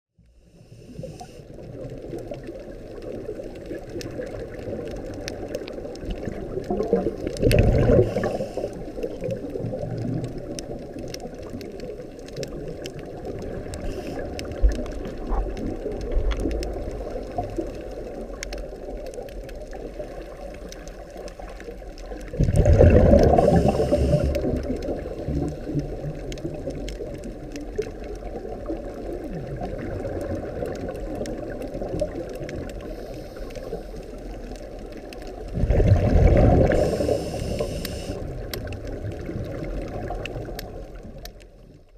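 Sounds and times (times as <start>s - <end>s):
muffled underwater rush: 0.2s - 41.9s.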